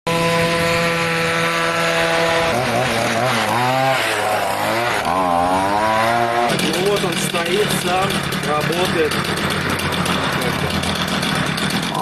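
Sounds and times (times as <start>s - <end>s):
two-stroke moped engine revving: 0.1s - 12.0s.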